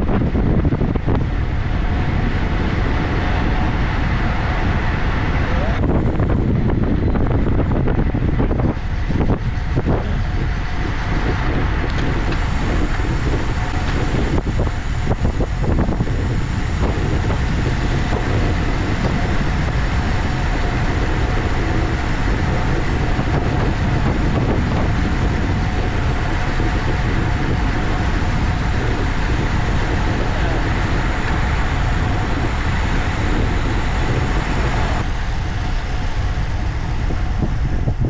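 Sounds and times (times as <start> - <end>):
bike tyres rumbling on asphalt: 0.0 - 38.0
wind buffets: 0.0 - 38.0
wind rushing on microphone: 0.0 - 38.0.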